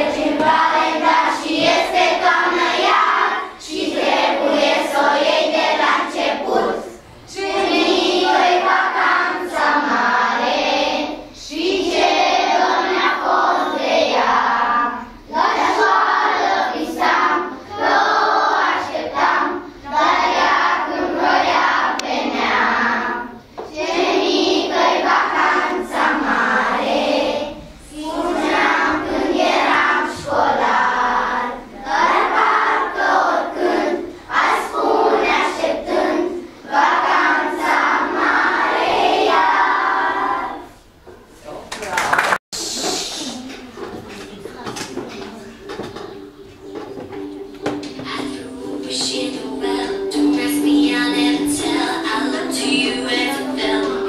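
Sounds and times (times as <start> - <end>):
children singing in unison: 0.0 - 41.0, 45.7 - 54.0.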